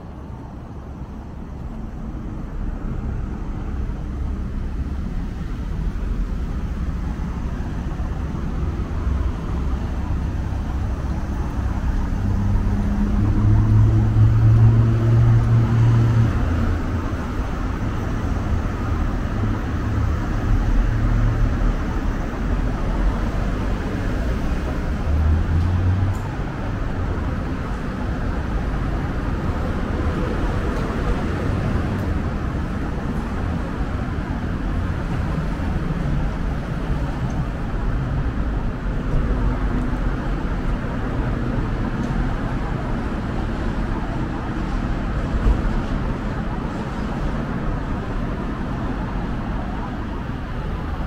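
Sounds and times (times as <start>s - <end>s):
passing vehicle engine hum: 0.0s - 51.0s
traffic rumble: 0.0s - 51.0s.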